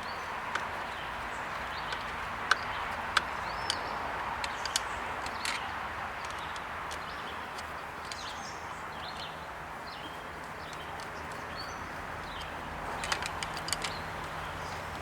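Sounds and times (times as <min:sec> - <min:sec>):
birds chirping: 0:00.0 - 0:15.0
outdoor background hiss: 0:00.0 - 0:15.0.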